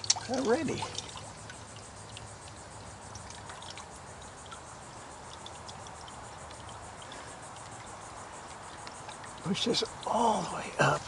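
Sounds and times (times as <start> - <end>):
liquid trickling: 0.0 - 11.0.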